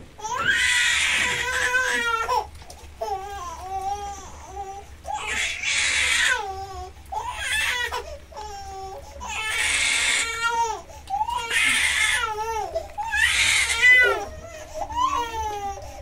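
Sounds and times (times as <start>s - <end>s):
baby crying: 0.2s - 16.0s.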